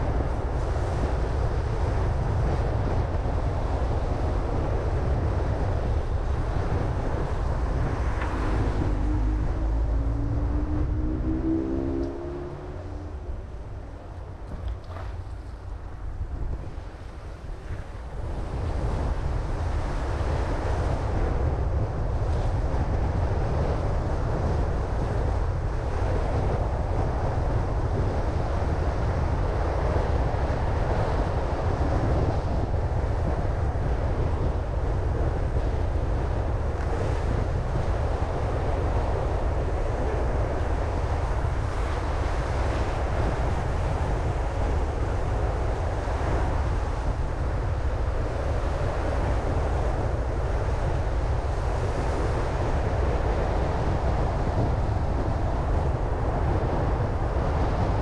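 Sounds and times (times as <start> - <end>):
car wind and road noise: 0.0 - 58.0.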